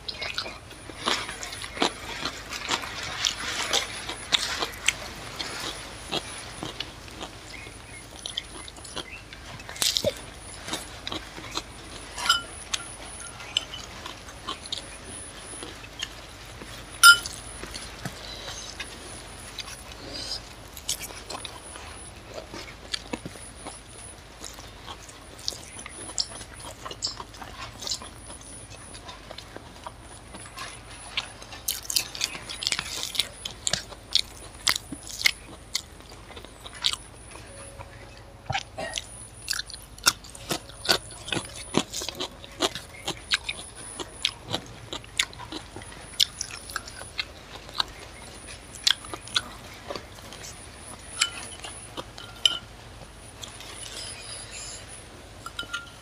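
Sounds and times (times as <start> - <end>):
chewing with wet clicks: 0.0 - 56.0.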